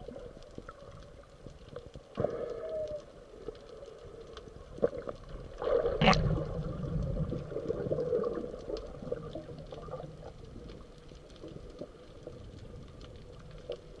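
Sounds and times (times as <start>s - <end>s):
faint clicks: 0.0s - 14.0s
water bubbling and gurgling: 0.0s - 14.0s.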